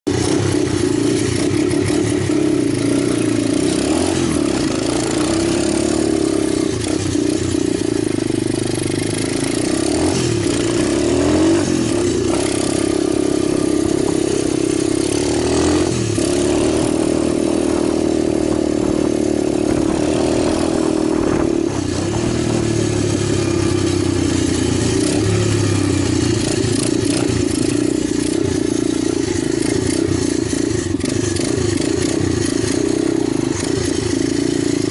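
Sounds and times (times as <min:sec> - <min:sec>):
pit bike engine revving: 0:00.1 - 0:34.9.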